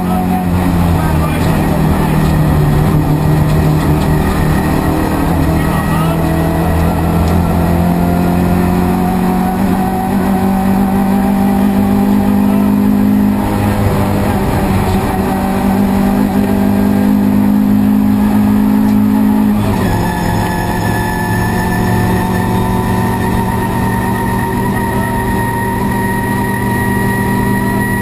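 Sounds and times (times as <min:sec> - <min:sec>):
rally car engine revving high: 0:00.0 - 0:28.0.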